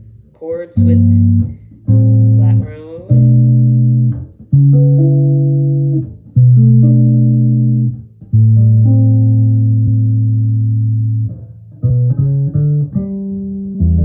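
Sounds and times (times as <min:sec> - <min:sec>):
bass guitar chords through amp: 0:00.0 - 0:14.0.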